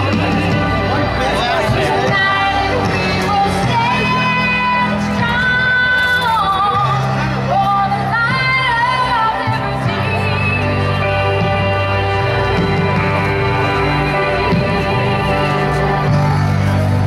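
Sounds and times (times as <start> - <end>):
instrumental accompaniment: 0.0 - 17.0
woman singing: 2.0 - 16.1.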